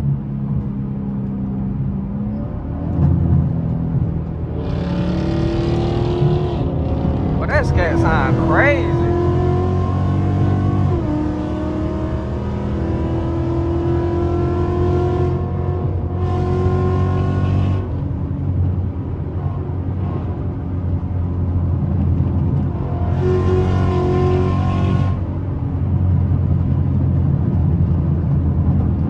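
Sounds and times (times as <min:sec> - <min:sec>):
car engine drone from inside cabin: 0:00.0 - 0:29.0.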